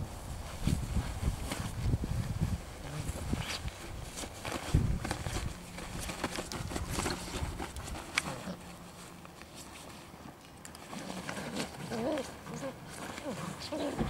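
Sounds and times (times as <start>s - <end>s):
rustling fabric: 0.0s - 14.0s
patter of paws: 0.4s - 14.0s.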